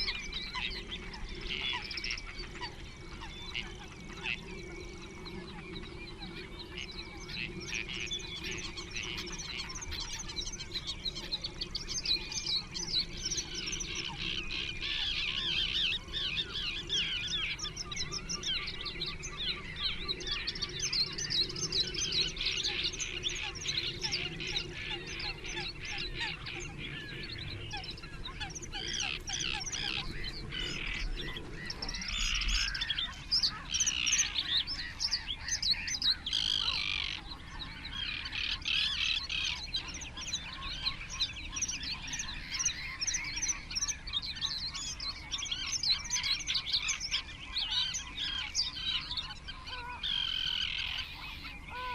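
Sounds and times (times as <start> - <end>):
small birds chirping and trilling: 0.0 - 51.9.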